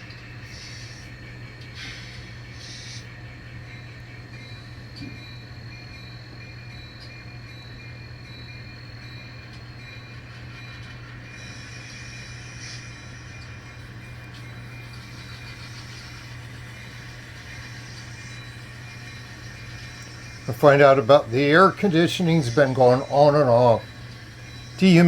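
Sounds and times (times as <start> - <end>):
faint rail noise: 0.0 - 25.0
model train humming: 0.0 - 25.0.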